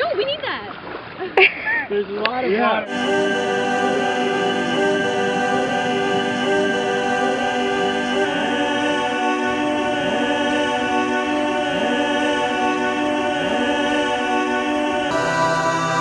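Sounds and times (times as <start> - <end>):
ambient music with layered chords: 2.8 - 16.0
rising sliding note: 2.8 - 16.0.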